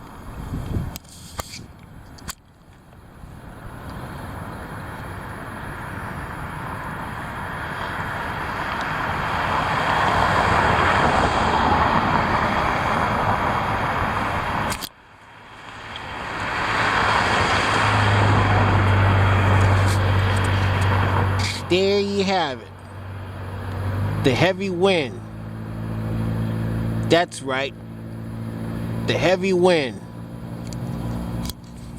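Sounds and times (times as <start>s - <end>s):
heavy rushing wind: 0.0s - 2.2s, 3.0s - 14.8s, 15.4s - 31.9s.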